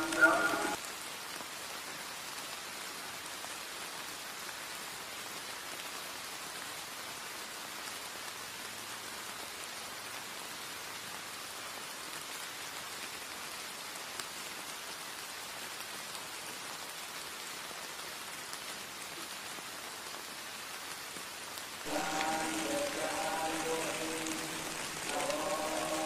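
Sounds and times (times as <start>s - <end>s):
light rain drizzle: 0.0s - 26.0s.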